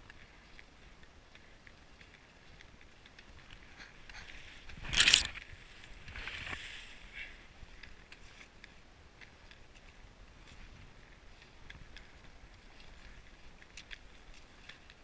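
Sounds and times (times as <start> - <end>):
ski pole plants: 0.0 - 15.0
skis sliding and crunching on snow: 0.0 - 15.0.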